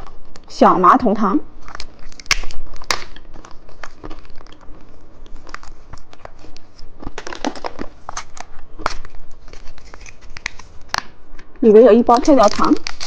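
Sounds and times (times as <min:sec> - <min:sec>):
plastic packaging crinkling: 0:01.5 - 0:13.0.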